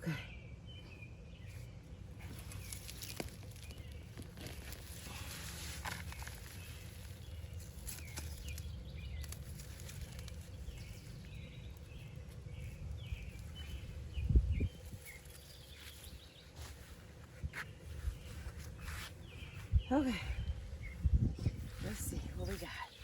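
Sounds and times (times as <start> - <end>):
small birds chirping: 0.0 - 23.0
steady low rumble: 0.4 - 23.0.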